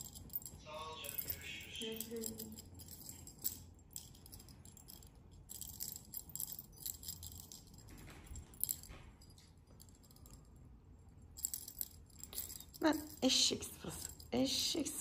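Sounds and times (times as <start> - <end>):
small bell jingling: 0.0 - 15.0.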